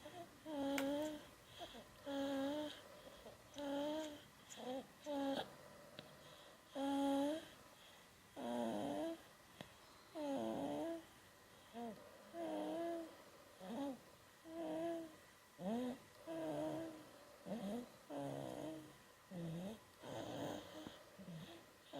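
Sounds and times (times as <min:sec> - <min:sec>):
baby snoring: 0:00.0 - 0:05.5, 0:06.7 - 0:07.6, 0:08.4 - 0:09.2, 0:10.2 - 0:11.1, 0:11.7 - 0:21.9.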